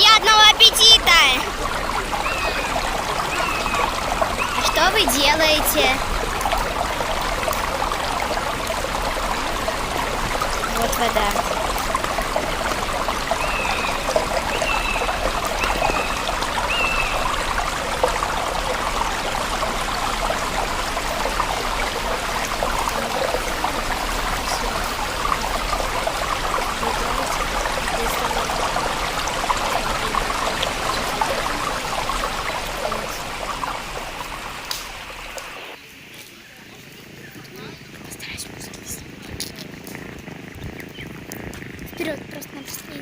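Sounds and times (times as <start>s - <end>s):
stream water babbling: 0.0s - 43.0s.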